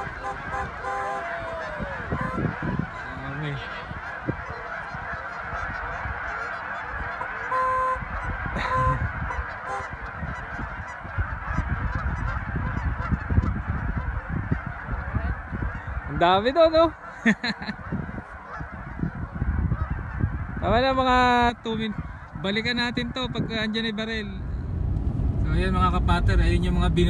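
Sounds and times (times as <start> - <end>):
geese honking: 0.0 - 24.6.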